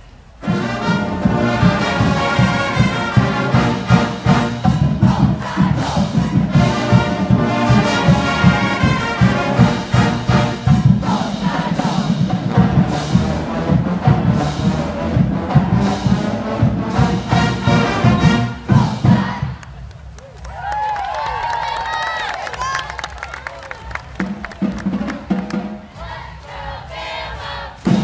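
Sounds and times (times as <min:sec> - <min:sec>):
marching band playing brass tune: 0:00.3 - 0:19.6, 0:23.7 - 0:28.0
steady drum beat: 0:00.4 - 0:19.9, 0:23.7 - 0:28.0.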